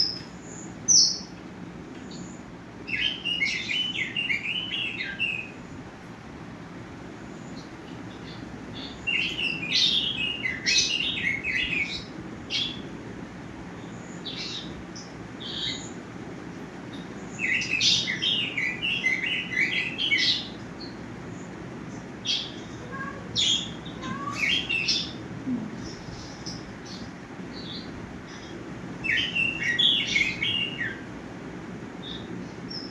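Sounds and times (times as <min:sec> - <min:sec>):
small birds chirping and twittering: 0:00.0 - 0:32.9.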